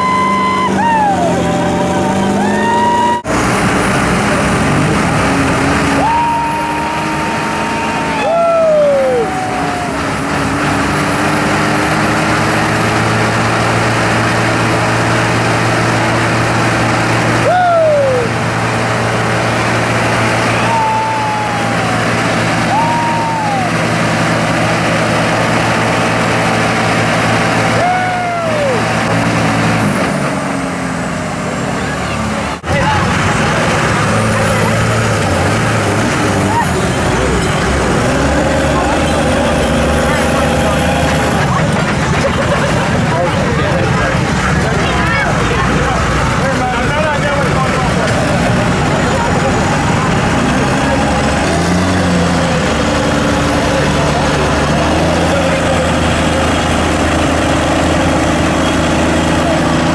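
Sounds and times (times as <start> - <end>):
tires spinning rushing noise: 0.0 - 59.9
truck engine revving hard: 0.0 - 59.9.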